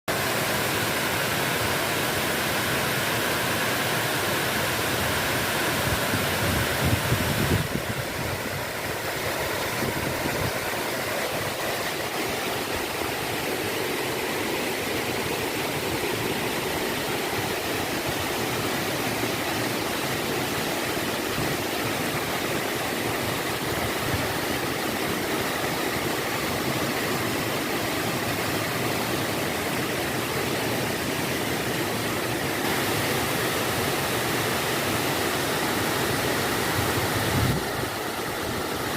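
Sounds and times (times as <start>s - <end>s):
water rushing over small waterfall: 0.1s - 38.9s.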